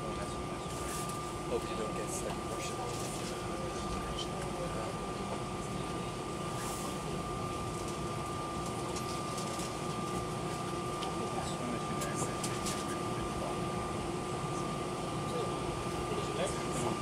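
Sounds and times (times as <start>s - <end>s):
air conditioning running: 0.0s - 17.0s
aircraft cabin rumble: 0.0s - 17.0s.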